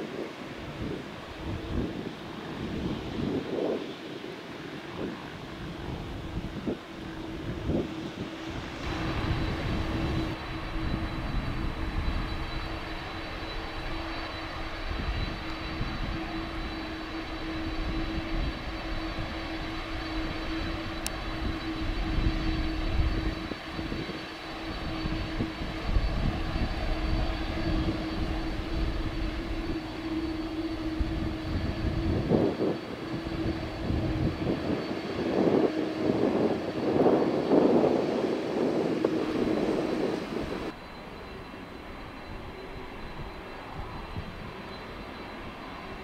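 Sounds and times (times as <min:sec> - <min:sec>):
jet engines rumbling and whining: 0:00.0 - 0:46.0.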